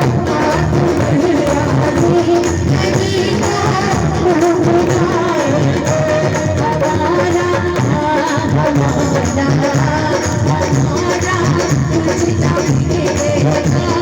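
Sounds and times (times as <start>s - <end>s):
hand percussion rhythm: 0.0s - 14.0s
person singing devotional song: 0.0s - 14.0s.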